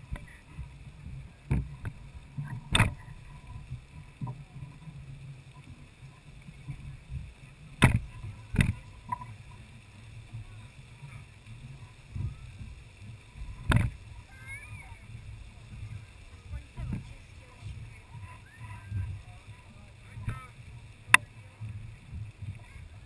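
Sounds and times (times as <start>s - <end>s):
geyser rumbling: 0.0s - 23.0s.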